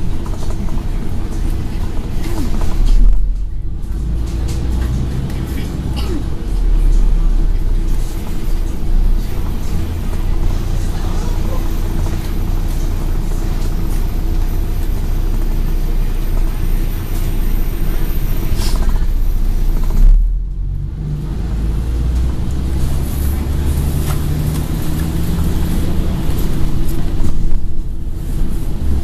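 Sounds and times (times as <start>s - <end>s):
bus diesel engine running: 0.0s - 29.0s
outside noise: 0.0s - 29.0s.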